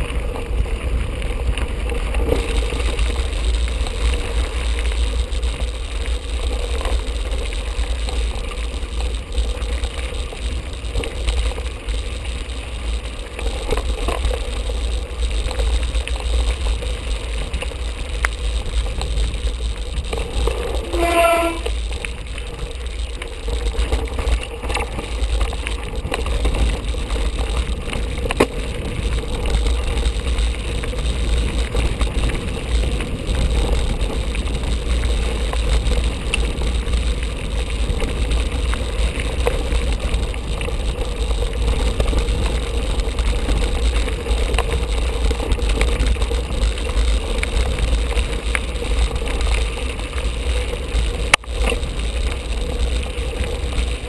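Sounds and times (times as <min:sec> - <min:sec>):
bike clicking and rattling: 0:00.0 - 0:54.0
wind and tyre rumble: 0:00.0 - 0:54.0.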